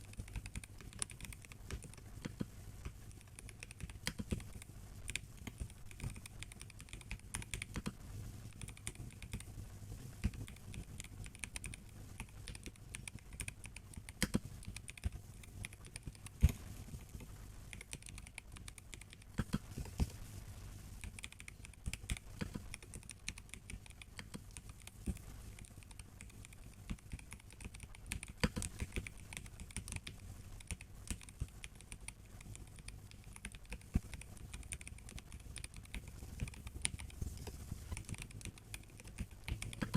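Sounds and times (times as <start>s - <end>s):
mechanical keyboard typing: 0.0s - 9.5s, 10.2s - 16.6s, 17.2s - 20.0s, 21.0s - 39.9s.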